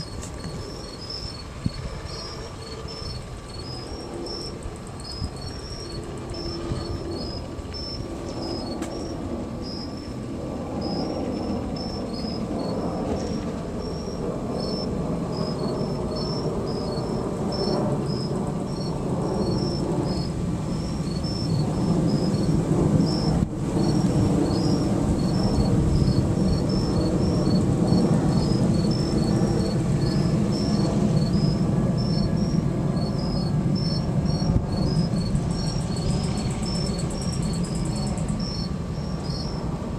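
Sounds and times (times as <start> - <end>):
crickets chirping: 0.0 - 39.9
low machinery rumble: 0.0 - 39.9.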